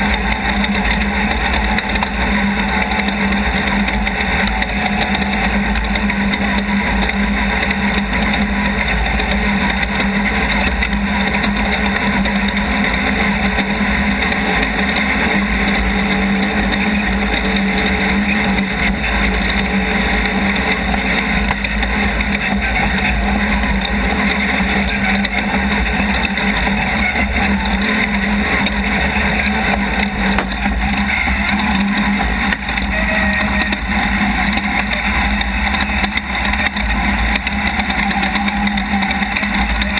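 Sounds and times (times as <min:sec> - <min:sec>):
race vehicle engine running hard: 0:00.0 - 0:39.9.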